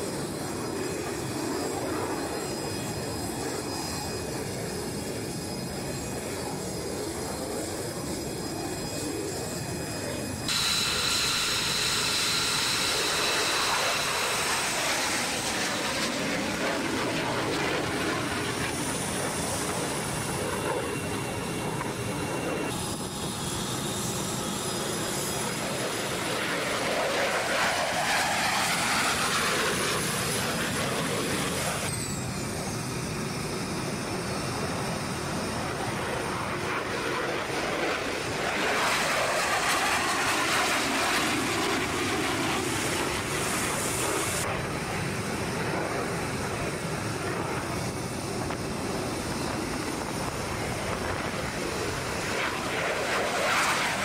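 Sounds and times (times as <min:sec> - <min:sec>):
fighter jet passing overhead: 0:00.0 - 0:54.0.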